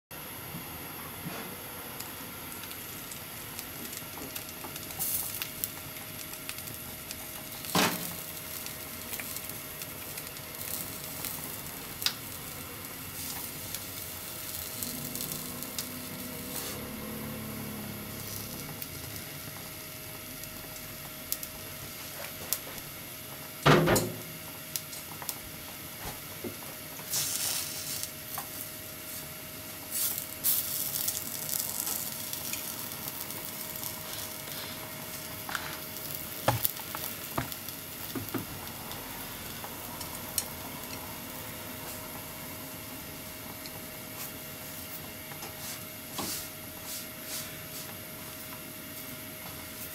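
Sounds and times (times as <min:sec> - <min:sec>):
meat sizzling in frying pan: 0:01.9 - 0:49.9.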